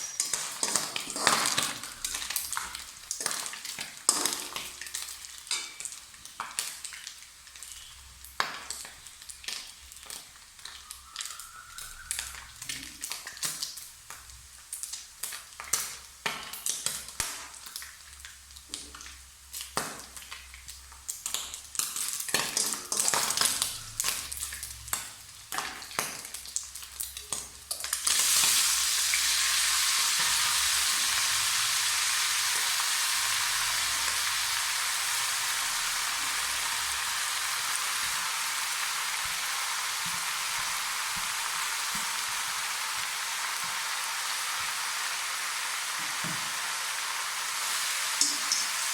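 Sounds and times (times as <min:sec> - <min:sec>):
food frying in oil: 0:00.0 - 0:48.9
loud steady sizzle: 0:00.0 - 0:48.9.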